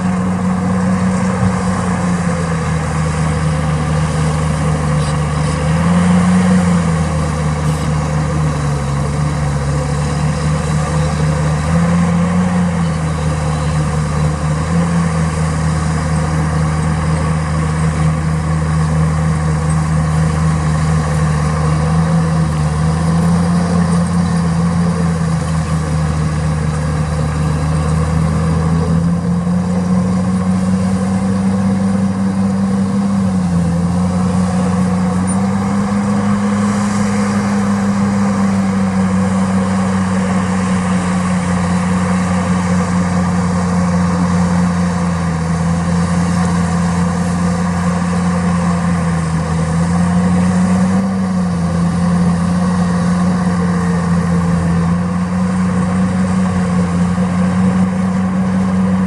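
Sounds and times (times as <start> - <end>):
diesel engine of construction machine: 0.0 - 59.0.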